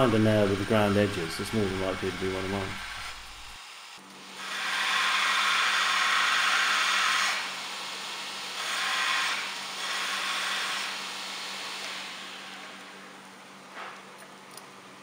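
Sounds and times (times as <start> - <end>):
belt grinder humming: 0.0 - 13.1.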